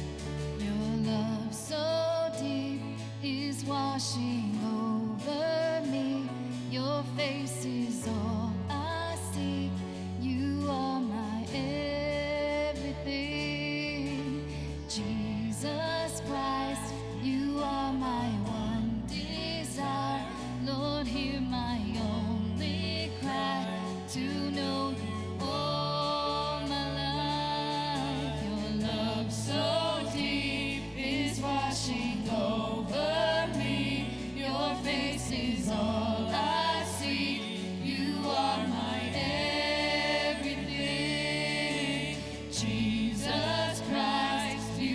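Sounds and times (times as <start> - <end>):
voices singing: 0.0 - 44.9
band playing worship music: 4.1 - 44.9.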